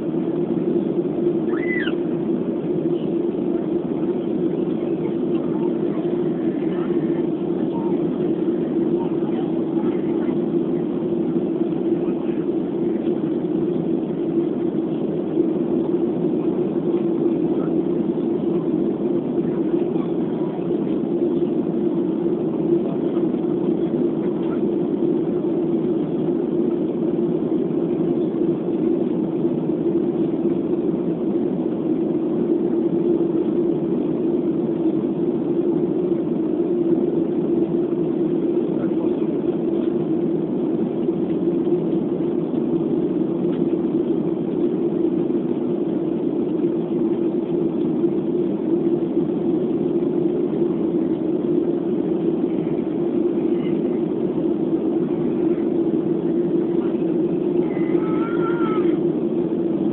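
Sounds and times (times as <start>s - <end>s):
airliner cabin jet engine drone: 0.0s - 59.9s.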